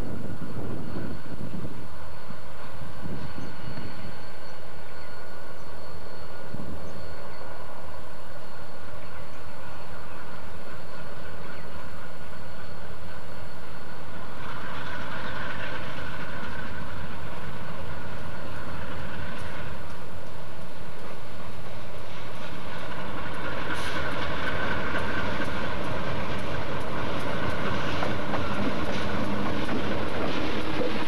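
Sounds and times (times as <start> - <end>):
diesel locomotive engine rumble: 0.0 - 31.0.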